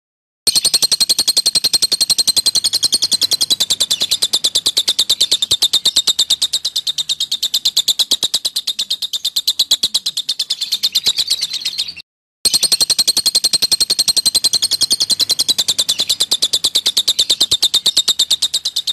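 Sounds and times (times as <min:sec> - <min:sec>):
lovebird chattering trill: 0:00.5 - 0:18.9.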